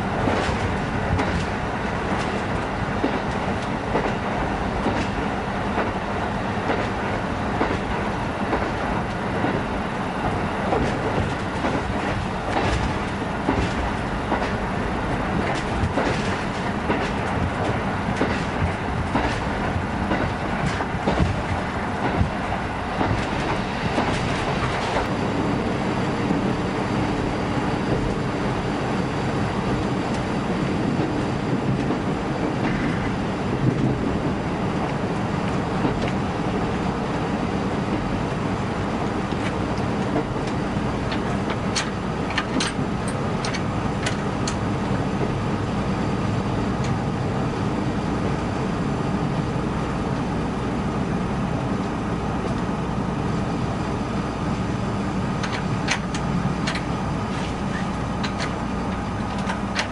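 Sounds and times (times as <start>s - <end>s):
train cabin rumble: 0.0s - 59.9s.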